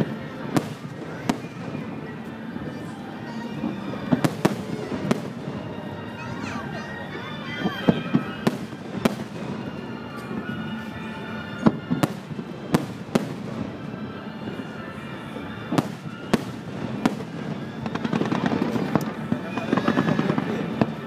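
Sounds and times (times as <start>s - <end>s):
fireworks display din: 0.0s - 21.0s.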